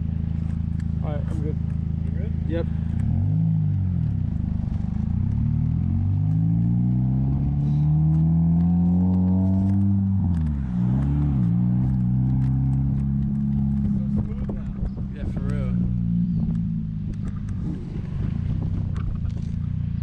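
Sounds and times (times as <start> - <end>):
vehicle engine speeding up: 0.0 - 20.0.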